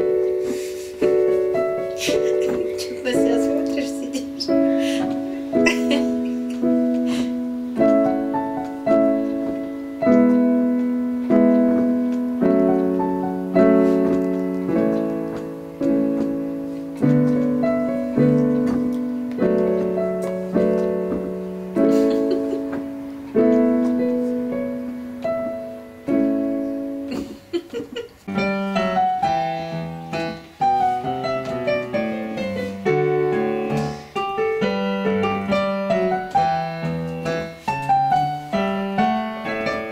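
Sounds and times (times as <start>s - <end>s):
piano runs of single notes: 0.0s - 27.6s, 28.3s - 39.9s
piano block chords: 0.0s - 39.9s.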